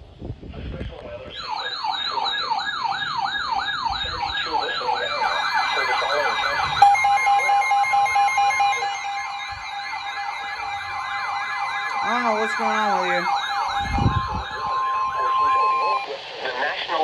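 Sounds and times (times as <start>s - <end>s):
steady alarm tone: 1.4s - 16.2s
warbling siren-like alert tone: 1.4s - 16.2s
beeping: 2.2s - 16.2s.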